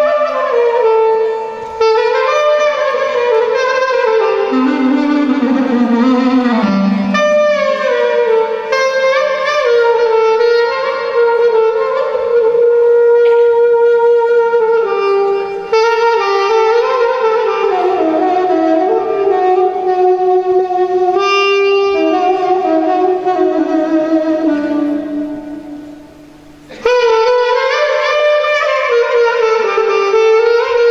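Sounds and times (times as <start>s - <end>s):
wind instrument slow melody: 0.0s - 30.9s.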